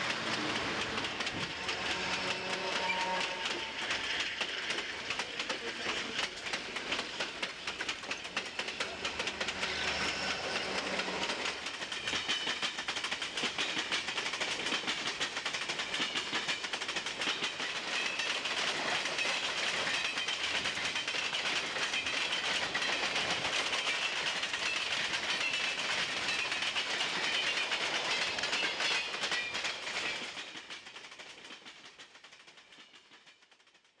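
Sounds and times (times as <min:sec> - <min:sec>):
freight train wheels clattering: 0:00.0 - 0:34.0.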